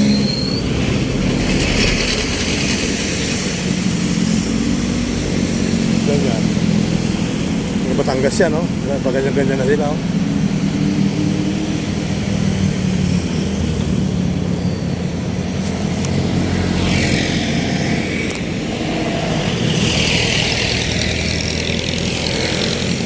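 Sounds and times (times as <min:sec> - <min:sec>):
boat engine humming: 0:00.0 - 0:23.0
water splashing along hull: 0:00.0 - 0:23.0.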